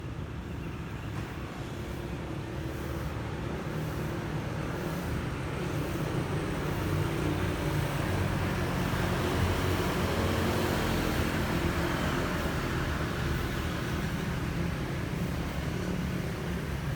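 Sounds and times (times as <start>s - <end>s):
road noise: 0.0s - 16.9s.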